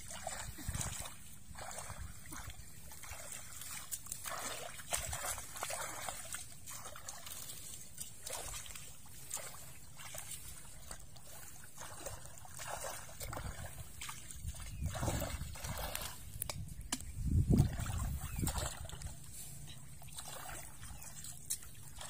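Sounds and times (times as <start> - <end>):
hands splashing in muddy water: 0.0 - 22.0.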